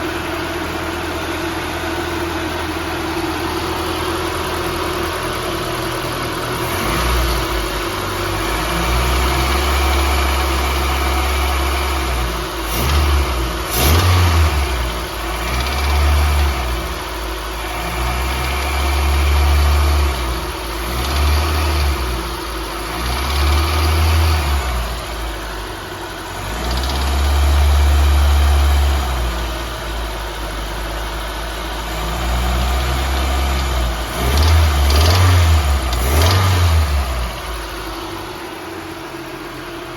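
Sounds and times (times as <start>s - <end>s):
car engine idling and revving: 0.0s - 39.9s
engine knocking: 0.0s - 39.9s.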